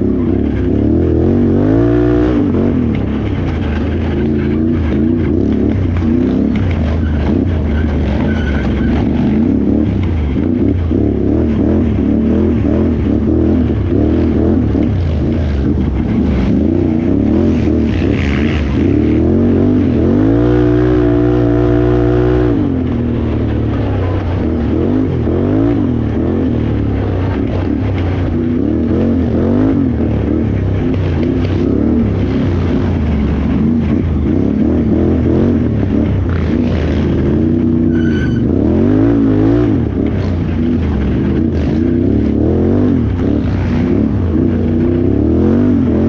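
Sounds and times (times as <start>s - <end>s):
engine revving: 0.0s - 46.0s.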